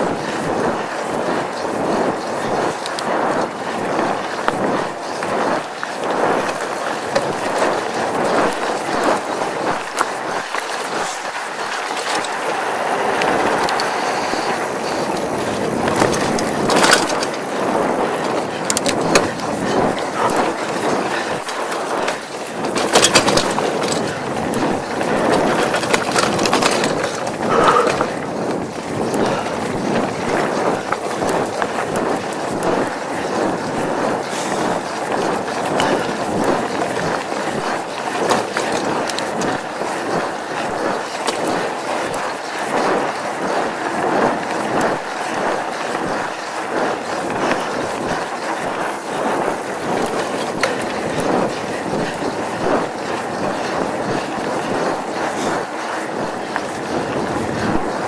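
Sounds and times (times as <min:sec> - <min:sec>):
bike rattling: 0:00.0 - 0:58.0
bike tyres crunching on dirt: 0:00.0 - 0:58.0.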